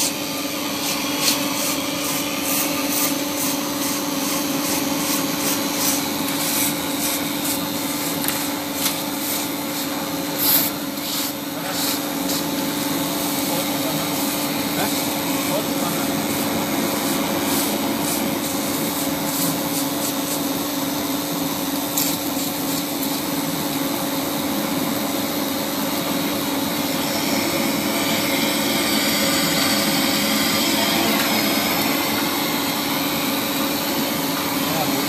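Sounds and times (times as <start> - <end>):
welding machine hum and hiss: 0.0 - 35.0.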